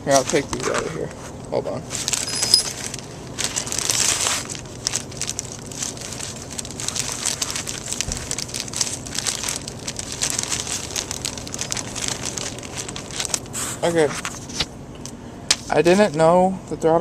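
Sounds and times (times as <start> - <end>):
packaging rustling and crinkling: 0.0 - 0.9, 1.9 - 14.7.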